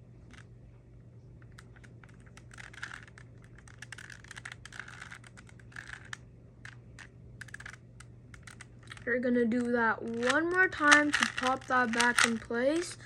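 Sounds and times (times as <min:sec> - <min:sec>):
plastic cube clicking as turned: 0:01.4 - 0:12.9.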